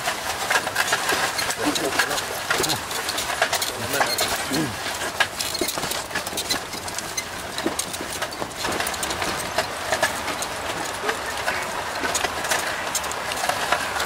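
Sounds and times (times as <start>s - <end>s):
wooden cart creaking: 0.0s - 14.0s
wooden cart rattling: 0.0s - 14.0s.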